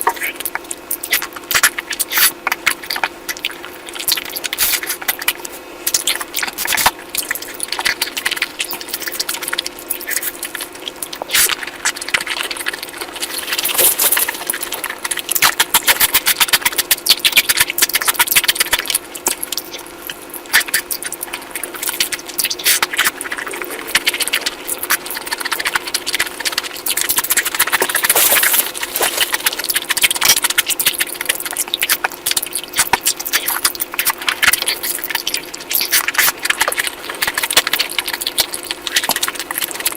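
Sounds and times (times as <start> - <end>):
small clicks and crackles: 0.0 - 39.9
wet chewing and lip-smacking: 0.0 - 39.9.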